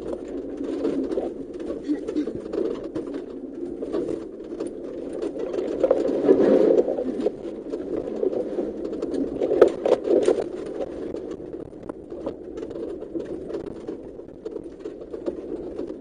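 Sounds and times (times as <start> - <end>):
knocks and rattles from bumps: 0.0 - 16.0
off-road vehicle engine drone: 0.0 - 16.0.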